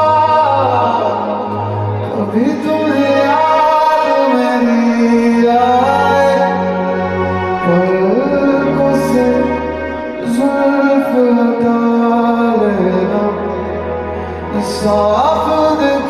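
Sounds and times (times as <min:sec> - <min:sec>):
low sustained backing: 0:00.0 - 0:16.0
man singing into microphone: 0:00.0 - 0:16.0.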